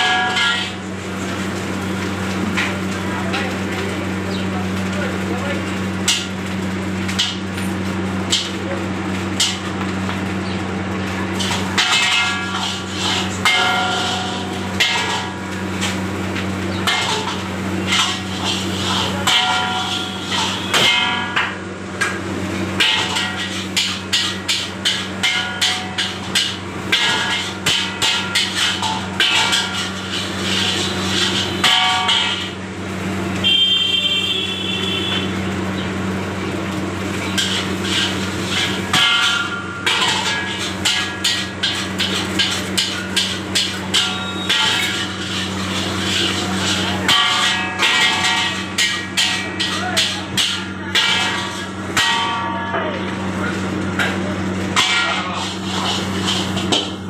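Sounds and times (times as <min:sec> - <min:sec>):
metal ladle striking a wok: 0:00.0 - 0:03.0, 0:05.8 - 0:08.6, 0:09.2 - 0:10.2, 0:11.3 - 0:35.3, 0:37.0 - 0:57.0.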